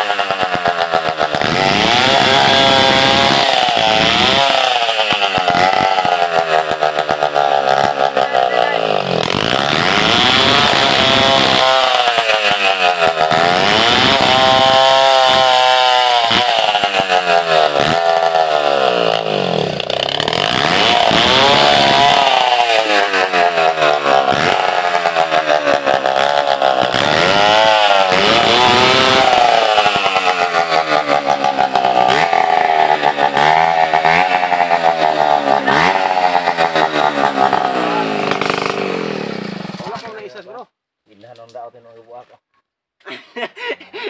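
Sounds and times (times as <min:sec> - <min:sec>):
chainsaw ripping a log: 0:00.0 - 0:40.3.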